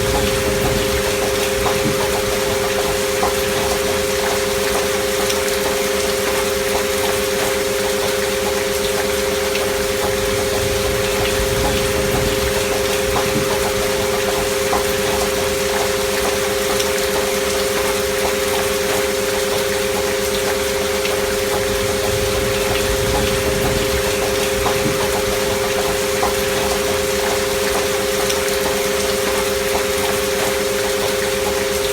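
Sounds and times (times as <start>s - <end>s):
steady rain: 0.0s - 31.9s.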